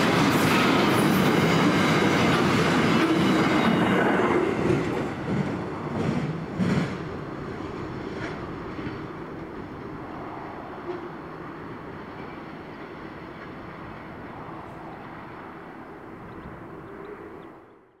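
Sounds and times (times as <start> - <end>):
train wheels rumbling on rails: 0.0 - 17.3.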